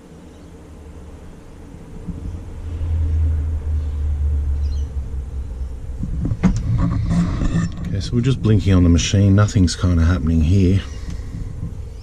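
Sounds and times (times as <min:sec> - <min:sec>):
deep low rumble: 0:00.8 - 0:12.0.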